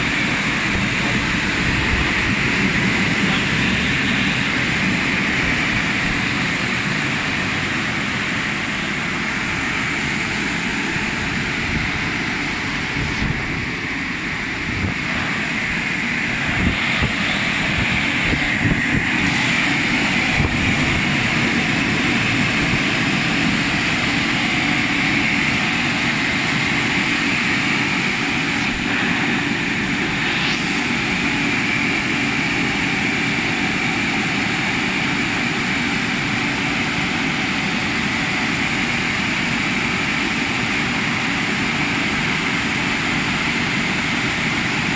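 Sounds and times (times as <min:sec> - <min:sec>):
car wash blower dryers: 0:00.0 - 0:44.9.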